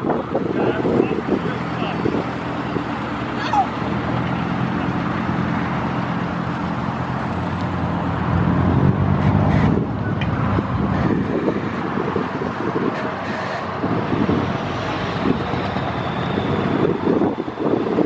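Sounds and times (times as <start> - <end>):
bus diesel engine passing: 0.0 - 18.0.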